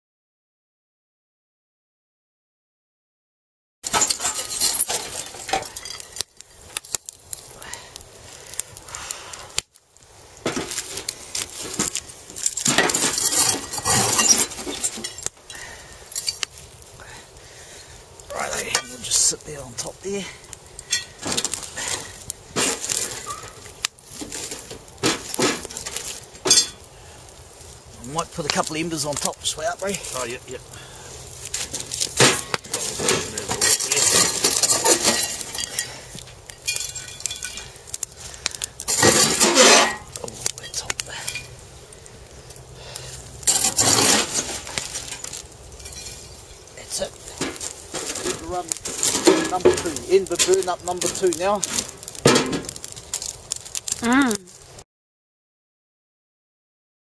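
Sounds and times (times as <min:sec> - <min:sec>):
coals clinking against metal: 0:03.8 - 0:54.8
saucepan scraping embers: 0:03.8 - 0:54.8.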